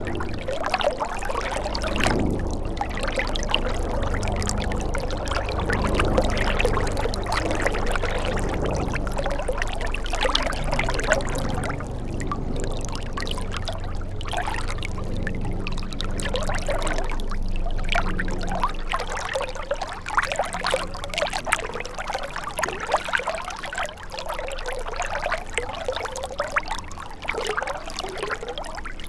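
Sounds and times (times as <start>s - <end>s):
river water burbling over stones: 0.0s - 28.2s.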